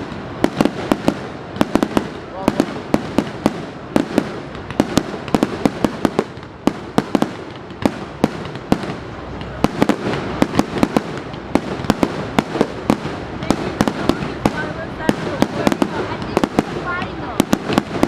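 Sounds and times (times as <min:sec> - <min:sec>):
distant fireworks bangs and crackle: 0:00.0 - 0:18.0
fireworks sharp bangs: 0:00.0 - 0:18.0.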